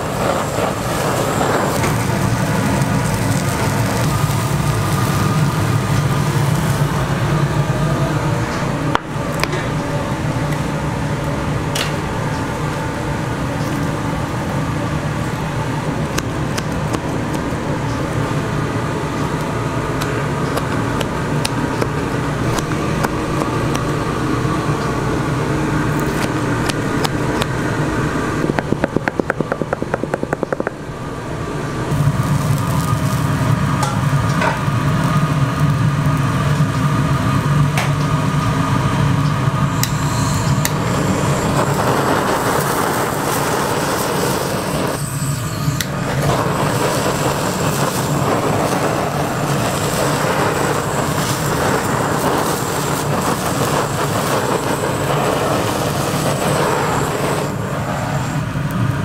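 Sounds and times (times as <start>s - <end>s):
mechanical hum with low drone: 0.0s - 59.0s.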